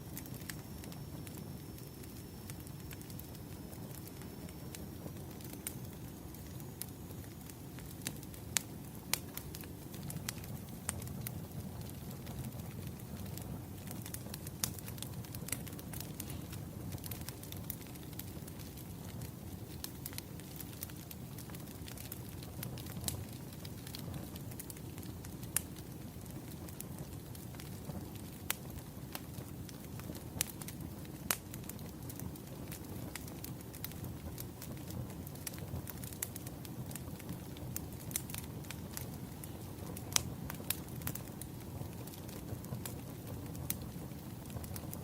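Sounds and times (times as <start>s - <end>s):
firewood burning with crackles: 0.0s - 45.0s
fire pops: 0.1s - 45.0s.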